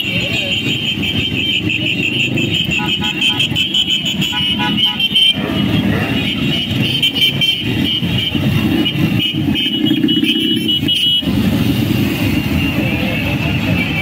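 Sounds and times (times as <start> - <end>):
motorcycle engines riding past: 0.0 - 14.0.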